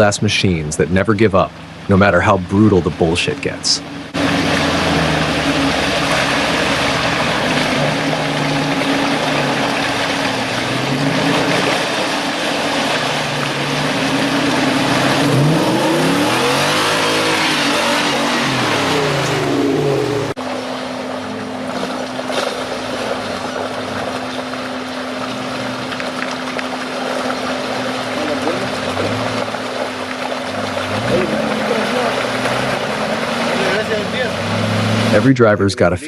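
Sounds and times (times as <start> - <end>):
spinning tyres rushing: 0.0 - 35.4
off-road engine revving: 0.0 - 36.0.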